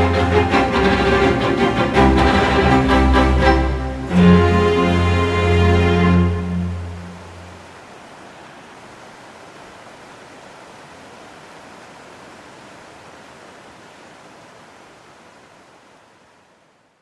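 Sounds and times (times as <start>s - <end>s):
rush of fast-flowing water: 0.0s - 16.9s.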